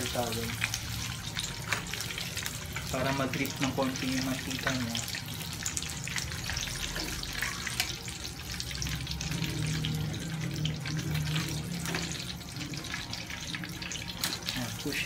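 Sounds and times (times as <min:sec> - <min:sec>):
oil crackling and sizzling in a pan: 0:00.0 - 0:15.0.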